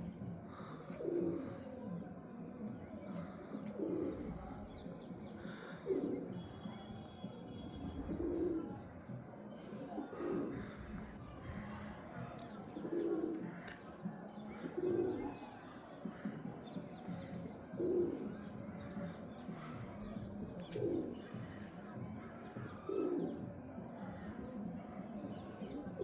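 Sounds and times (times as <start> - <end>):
pigeons cooing: 0.0 - 14.0, 14.6 - 15.2, 16.5 - 26.0.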